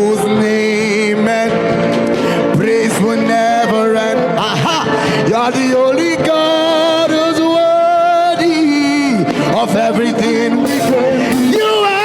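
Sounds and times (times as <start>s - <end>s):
person singing wordless runs: 0.0s - 12.0s.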